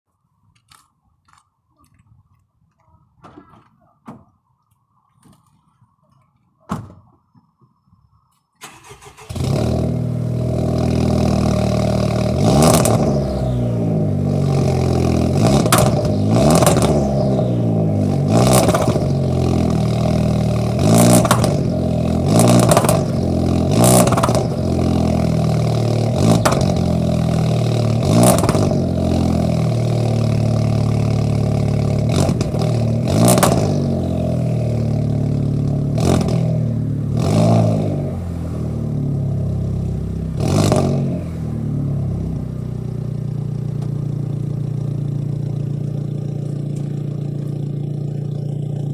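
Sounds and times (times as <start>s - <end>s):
car engine revving: 8.6s - 48.9s.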